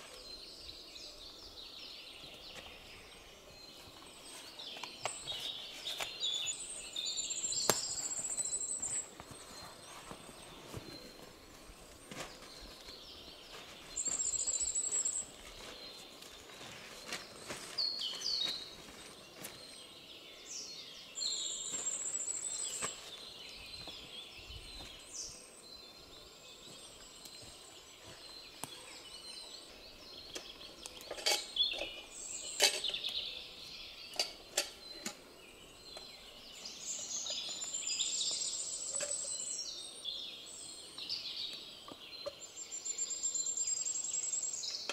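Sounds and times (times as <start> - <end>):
bird chirps: 0.0 - 44.9
songbirds trilling: 0.0 - 44.9.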